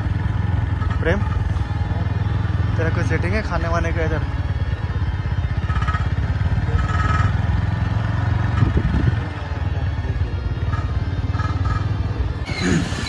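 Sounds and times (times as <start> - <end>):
motorcycle engine running slowly: 0.0 - 13.0.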